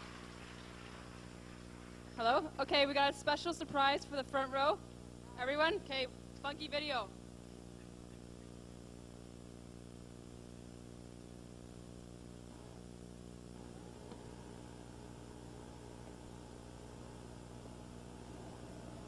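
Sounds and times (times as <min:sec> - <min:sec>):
electrical hum: 0:00.0 - 0:19.0
tape hiss: 0:00.0 - 0:19.0.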